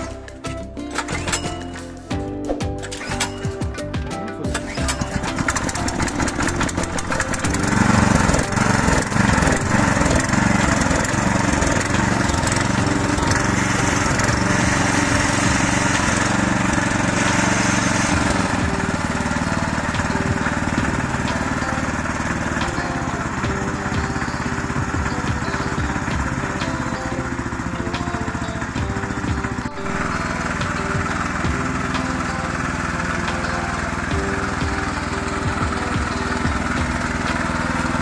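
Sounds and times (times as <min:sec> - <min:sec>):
power tiller engine running: 0:00.0 - 0:38.0.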